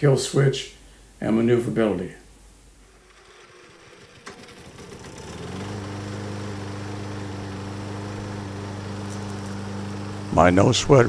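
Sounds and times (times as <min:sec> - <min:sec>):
lawn mower engine starting and running: 0:00.8 - 0:11.0.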